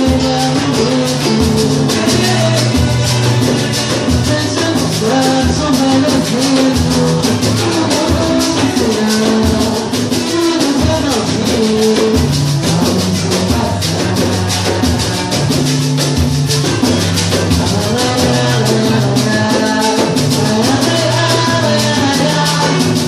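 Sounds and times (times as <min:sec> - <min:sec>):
samba percussion ensemble: 0:00.0 - 0:23.0.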